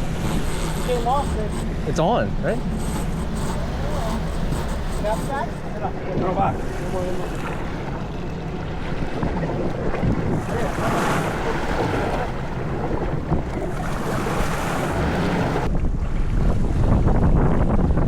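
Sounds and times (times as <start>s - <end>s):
waves washing on water: 0.0s - 15.7s
wind buffeting the microphone: 0.0s - 18.0s.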